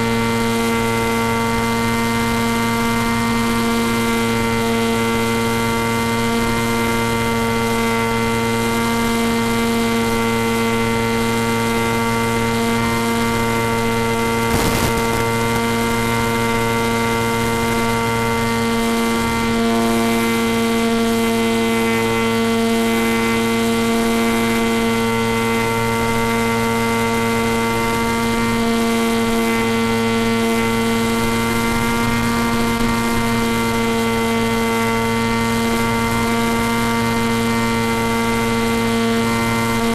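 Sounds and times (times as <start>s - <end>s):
electric motor and propeller droning: 0.0s - 39.9s.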